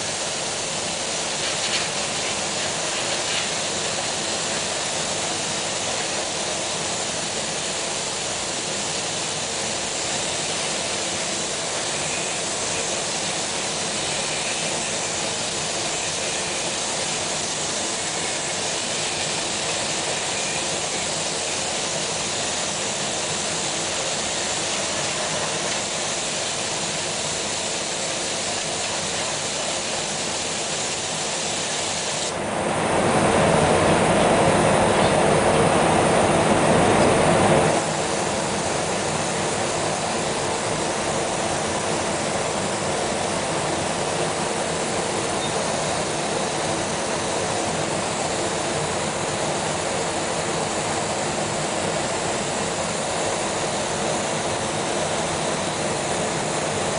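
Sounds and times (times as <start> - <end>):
spray gun hissing: 0.0 - 32.4, 36.1 - 56.9.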